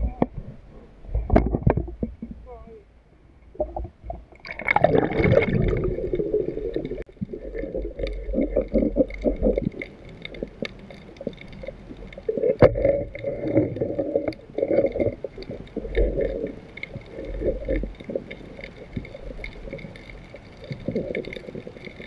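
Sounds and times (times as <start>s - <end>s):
water gurgling and sloshing: 0.0s - 22.0s.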